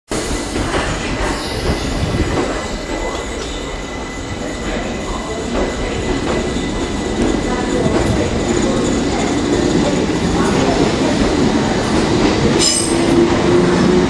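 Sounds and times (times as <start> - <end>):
train wheels rumbling on rail: 0.1 - 14.0.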